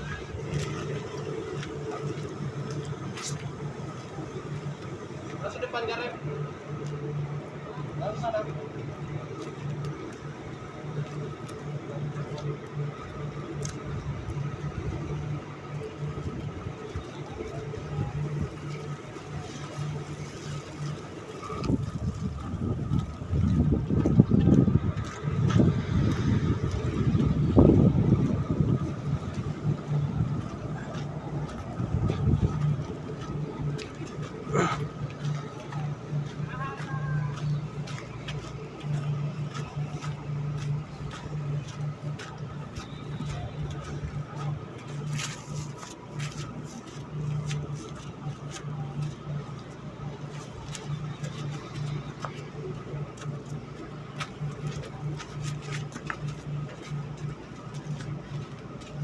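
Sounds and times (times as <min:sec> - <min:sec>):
boat engine humming: 0:00.0 - 0:59.0
uneven low rumble: 0:06.5 - 0:59.0.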